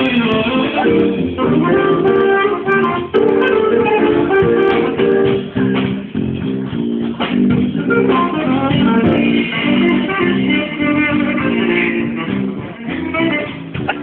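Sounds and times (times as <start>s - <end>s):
plucked guitar music: 0.0s - 14.0s.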